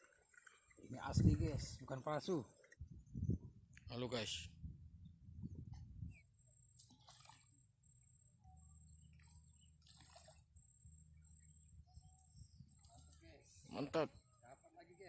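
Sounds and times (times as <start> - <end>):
faint low hum: 2.8 - 15.0.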